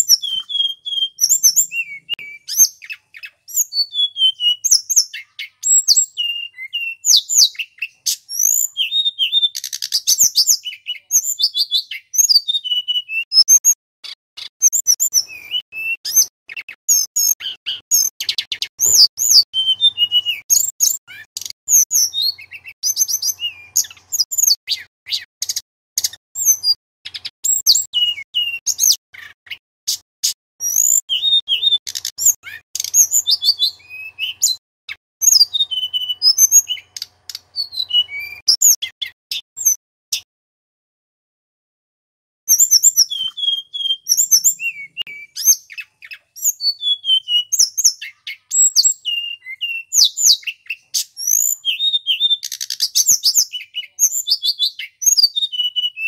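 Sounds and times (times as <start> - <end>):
flycatcher singing: 0.0 - 30.0, 30.6 - 34.6, 35.2 - 39.7, 42.5 - 56.0.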